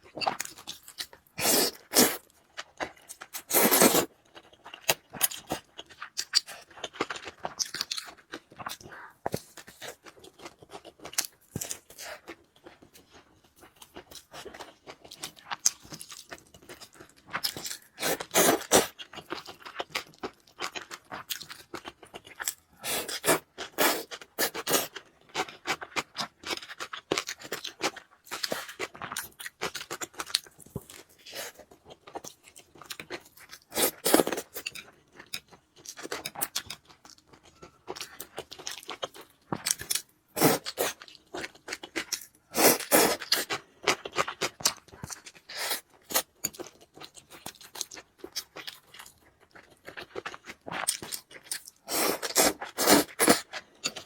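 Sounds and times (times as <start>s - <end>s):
person chewing and crunching noodles: 0.0s - 54.0s.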